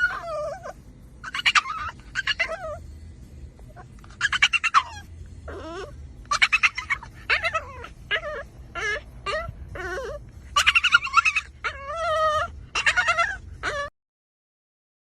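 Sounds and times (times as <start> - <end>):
dog whining and whimpering: 0.0 - 14.0.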